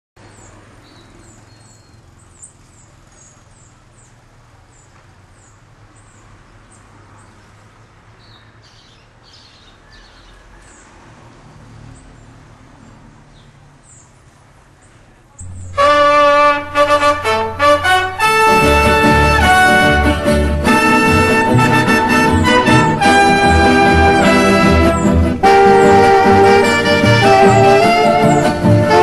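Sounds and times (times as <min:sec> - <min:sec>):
birds chirping: 0:00.2 - 0:29.0.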